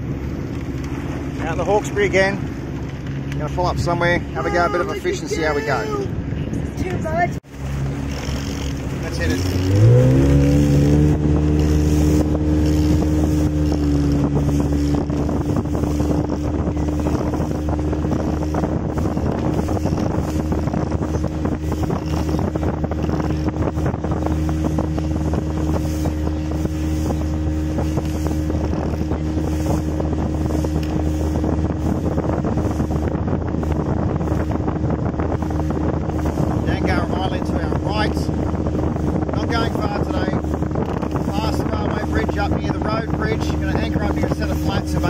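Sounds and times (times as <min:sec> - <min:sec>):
motorboat engine running: 0:00.0 - 0:45.0
wind buffeting microphone: 0:00.0 - 0:45.0.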